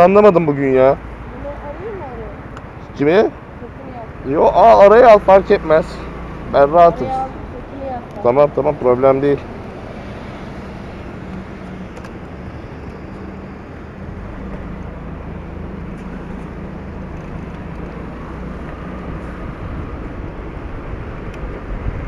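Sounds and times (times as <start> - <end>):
wind and road noise: 0.0 - 22.0
motorcycle engine running: 0.1 - 22.0.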